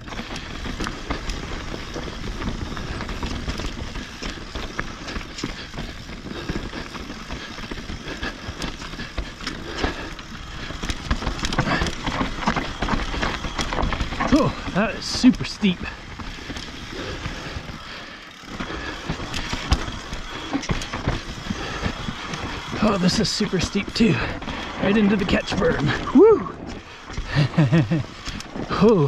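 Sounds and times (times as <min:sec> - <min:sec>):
bike clattering: 0:00.0 - 0:29.0
tyres crunching over gravel: 0:00.0 - 0:29.0.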